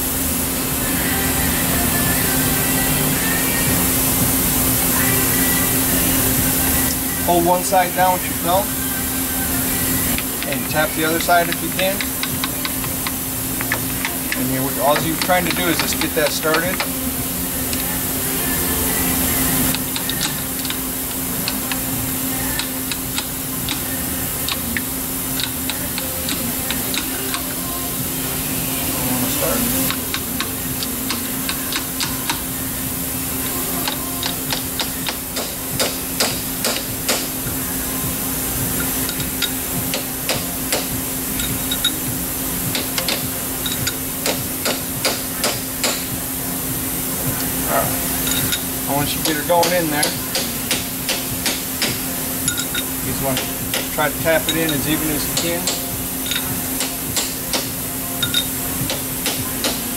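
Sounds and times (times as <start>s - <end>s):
high hiss: 0.0s - 59.9s
steady workshop hum: 0.0s - 59.9s.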